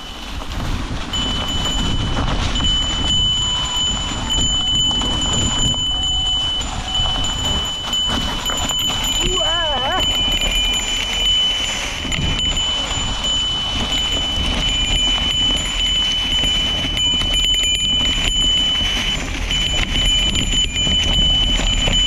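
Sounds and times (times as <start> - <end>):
bike rattle and tyre noise: 0.0 - 22.0
small bell ringing: 1.1 - 22.0.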